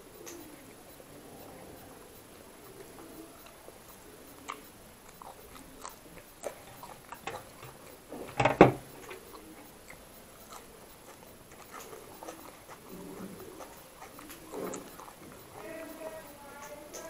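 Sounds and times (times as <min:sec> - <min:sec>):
chewing with crisp clicks: 0:00.0 - 0:17.0.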